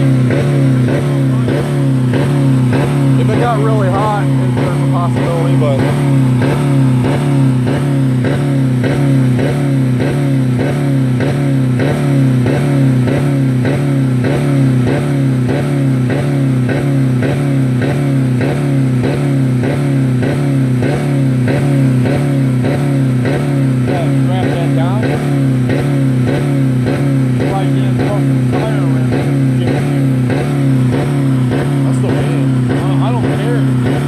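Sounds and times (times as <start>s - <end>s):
car engine at rev limiter: 0.0s - 34.0s.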